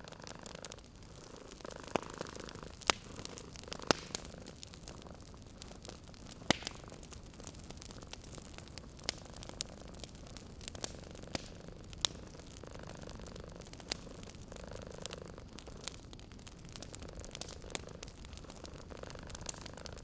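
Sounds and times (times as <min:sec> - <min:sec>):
cat purring: 0:00.0 - 0:20.0
wood fire crackling and popping: 0:00.0 - 0:20.0.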